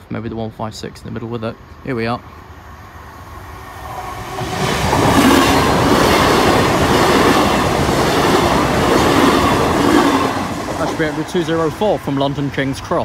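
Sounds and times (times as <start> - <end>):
train wheels rushing on rails: 0.2 - 13.0.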